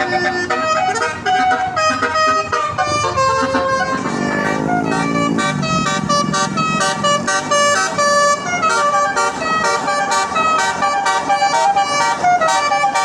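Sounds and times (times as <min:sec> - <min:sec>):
bus musical horn melody: 0:00.0 - 0:13.0.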